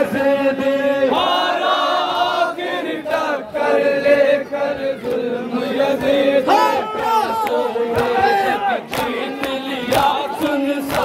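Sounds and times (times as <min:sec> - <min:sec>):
men chanting lament over loudspeakers: 0:00.0 - 0:11.0.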